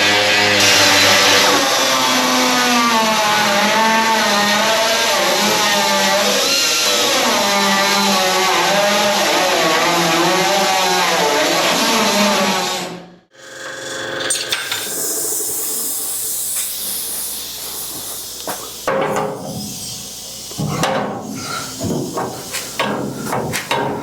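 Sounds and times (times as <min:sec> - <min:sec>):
angle grinder cutting steel: 0:00.0 - 0:12.6, 0:13.4 - 0:24.0.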